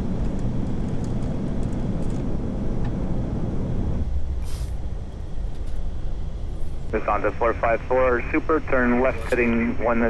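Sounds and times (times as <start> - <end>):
cockpit airflow and engines rushing: 0.0 - 10.0.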